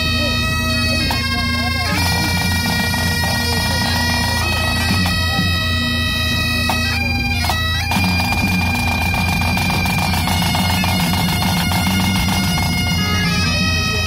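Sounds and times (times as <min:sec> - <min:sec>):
bagpipes playing a tune: 0:00.0 - 0:14.0.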